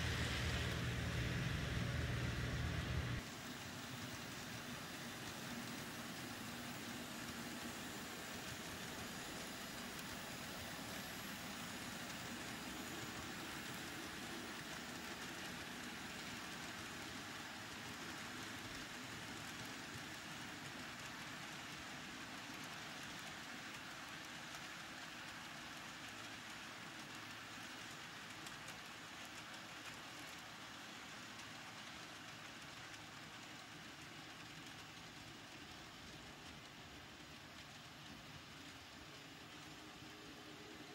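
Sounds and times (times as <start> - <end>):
model train wheels rattling on rails: 0.0 - 40.9.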